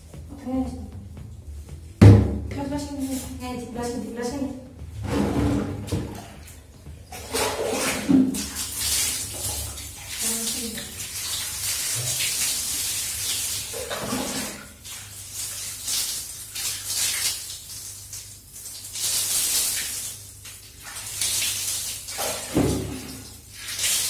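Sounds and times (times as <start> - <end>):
water splashing and dripping: 0.0 - 24.0
wet fur scrubbing: 2.6 - 24.0.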